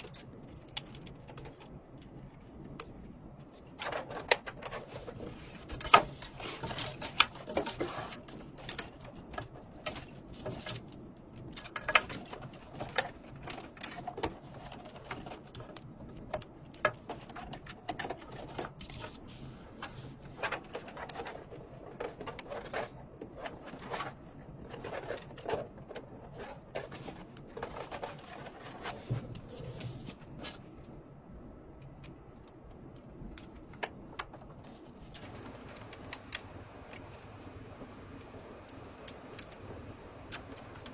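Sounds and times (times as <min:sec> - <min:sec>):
plastic and metal parts clicking: 0:00.0 - 0:31.0, 0:31.7 - 0:40.9.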